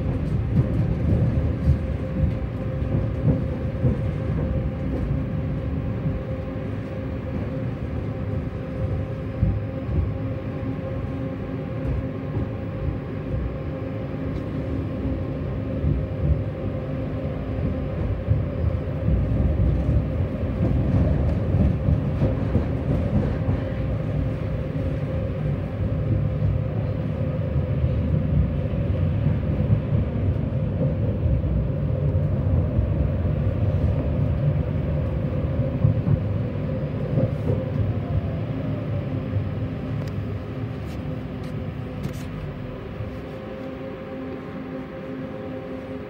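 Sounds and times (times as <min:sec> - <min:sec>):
constant low hum: 0:00.0 - 0:46.0
tram rumble on track: 0:00.0 - 0:46.0.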